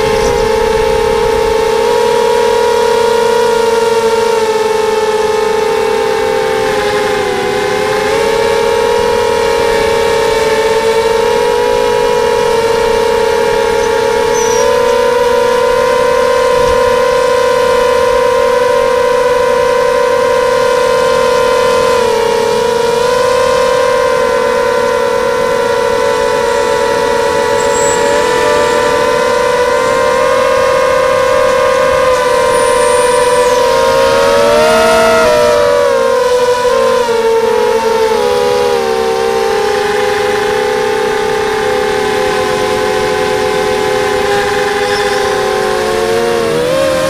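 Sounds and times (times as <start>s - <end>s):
quadcopter motors whining: 0.0s - 47.0s.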